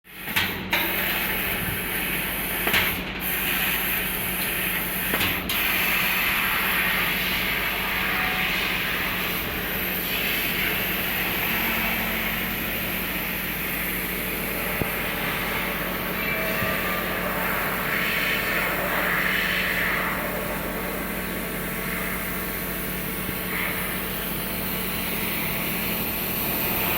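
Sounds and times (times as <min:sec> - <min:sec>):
laser cutter gas jet hiss: 0:00.1 - 0:26.9
machine hum: 0:00.7 - 0:26.9.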